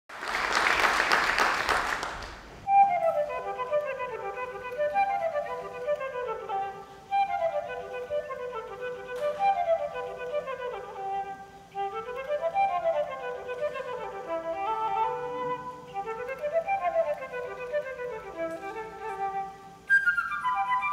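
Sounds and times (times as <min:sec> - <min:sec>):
flute playing fast runs: 0:02.7 - 0:20.9.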